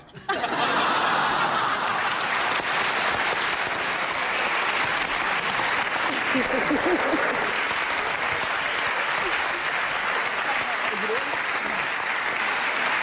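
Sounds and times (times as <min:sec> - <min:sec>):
audience applauding: 0:00.4 - 0:13.0.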